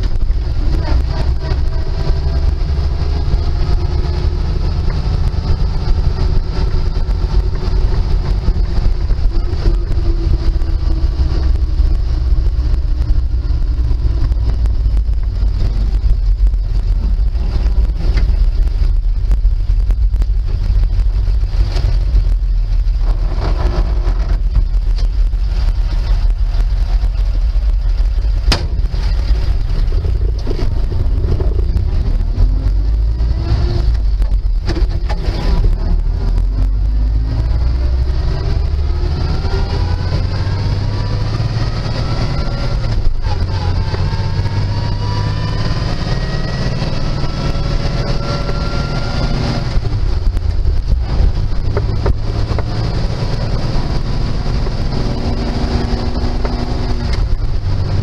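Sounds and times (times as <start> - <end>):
gear whine: 0.0 - 58.0
truck engine low rumble: 0.0 - 58.0.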